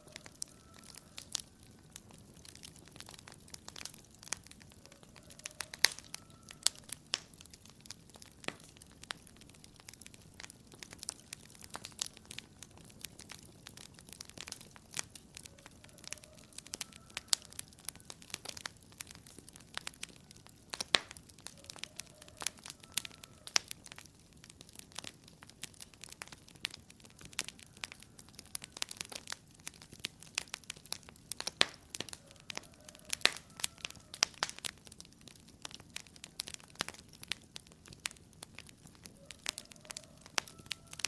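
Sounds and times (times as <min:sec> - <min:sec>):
burning wood squealing: 0:00.0 - 0:41.0
wood fire crackling and popping: 0:00.0 - 0:41.0.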